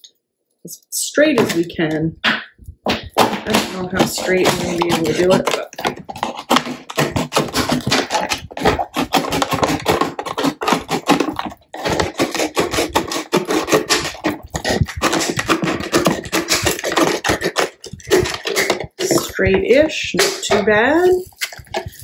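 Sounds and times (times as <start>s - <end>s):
box cutter cutting plastic: 2.9s - 22.0s.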